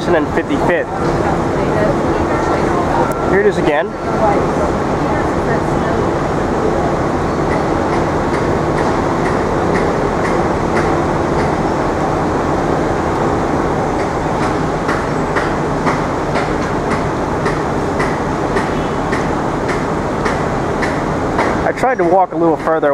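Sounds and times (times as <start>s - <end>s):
city street rumble: 0.0s - 22.9s.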